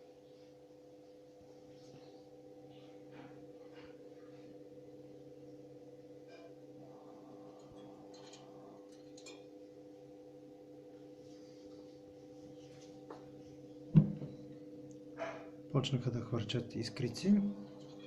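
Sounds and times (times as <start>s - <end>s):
stove fan humming: 0.0s - 18.0s.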